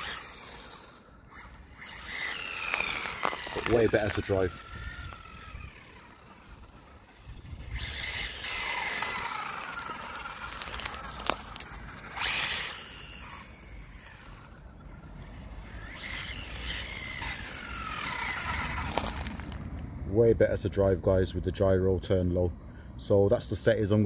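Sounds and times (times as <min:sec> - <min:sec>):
toy car electric motor whining: 0:00.0 - 0:19.8.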